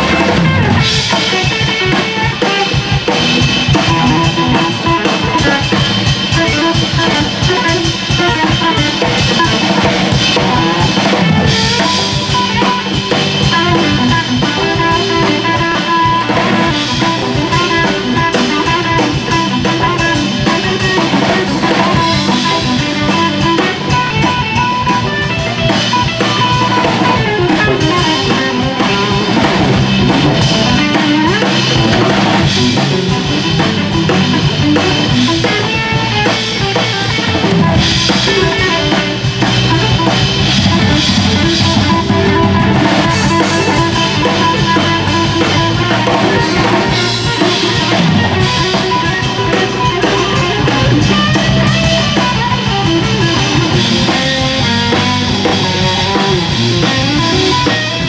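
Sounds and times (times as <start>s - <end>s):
drum kit: 0.0s - 58.0s
guitar: 0.0s - 58.0s
jazz band playing: 0.0s - 58.0s.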